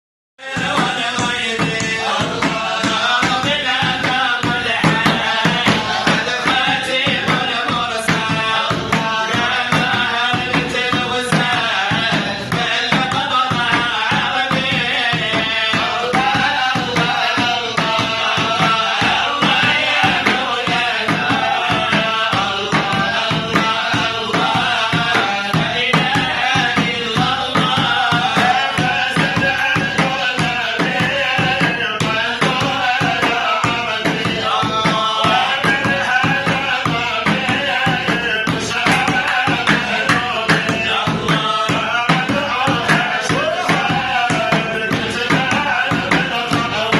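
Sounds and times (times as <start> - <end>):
folk singing: 0.4 - 46.9
hand drums and percussion: 0.4 - 46.9.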